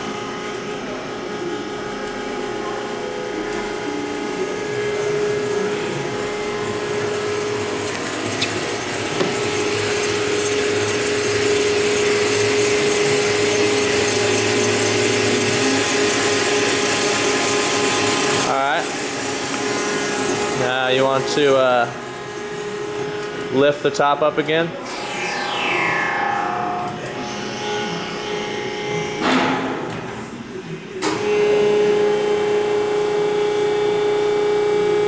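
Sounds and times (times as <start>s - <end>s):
mixer agitator humming: 0.0s - 29.2s.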